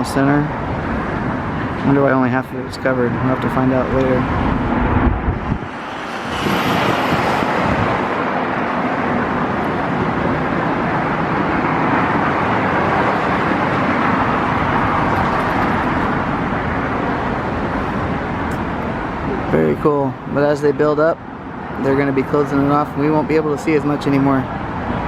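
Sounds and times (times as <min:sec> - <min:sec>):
road traffic roar: 0:00.0 - 0:25.0.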